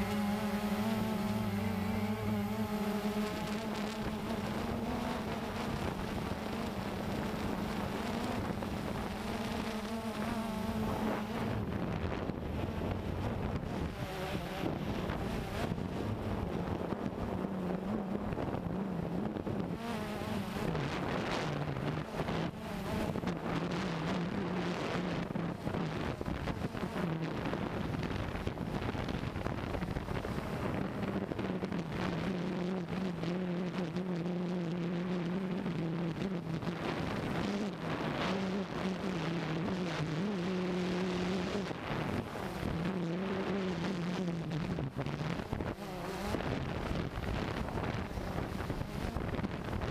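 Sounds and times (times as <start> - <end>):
quadcopter propellers humming: 0.0 - 49.9
wind noise on microphone: 0.0 - 49.9.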